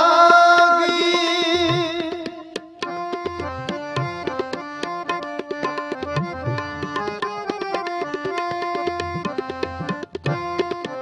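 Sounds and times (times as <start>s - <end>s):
harmonium melody: 0.0s - 11.0s
tabla strokes: 0.1s - 11.0s.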